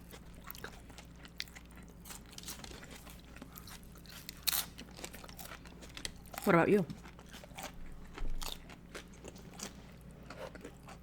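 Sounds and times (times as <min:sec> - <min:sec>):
tortilla chips being chewed: 0:00.0 - 0:11.0.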